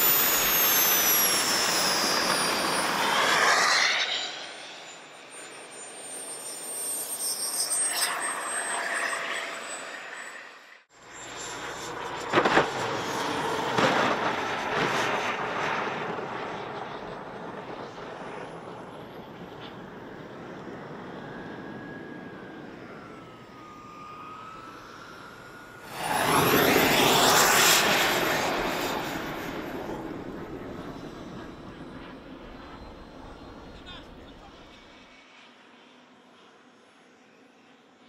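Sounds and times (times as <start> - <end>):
turbine spooling up: 0.0 - 35.0
model jet turbine whine: 0.0 - 38.0.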